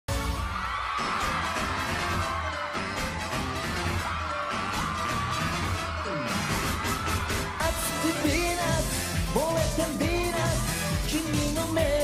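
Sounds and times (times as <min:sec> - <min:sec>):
pop dance music with steady beat: 0:00.1 - 0:12.0.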